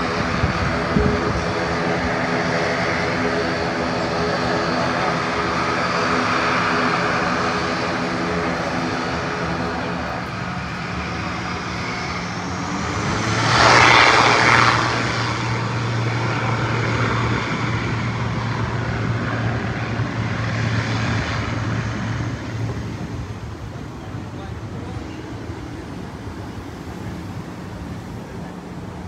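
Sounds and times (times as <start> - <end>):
loud rushing: 0.0 - 23.6
airliner engines droning: 0.0 - 29.0.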